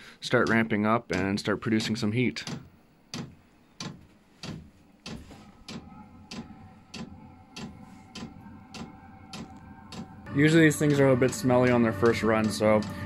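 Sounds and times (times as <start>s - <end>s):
heater fan hum: 0.0s - 13.0s.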